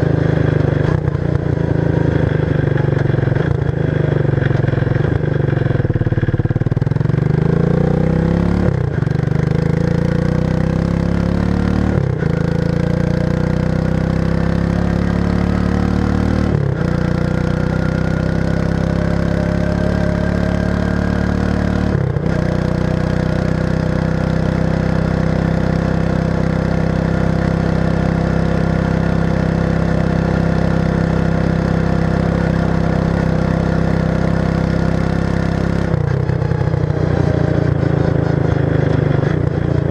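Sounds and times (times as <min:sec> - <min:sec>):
quad bike engine exhaust revving: 0:00.0 - 0:39.9.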